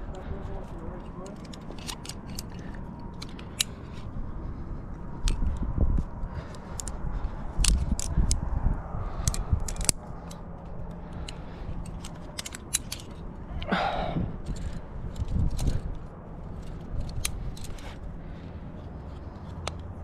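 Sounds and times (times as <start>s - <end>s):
carabiners clicking and clinking: 0.0s - 20.0s
low rumbling from handling: 0.0s - 20.0s.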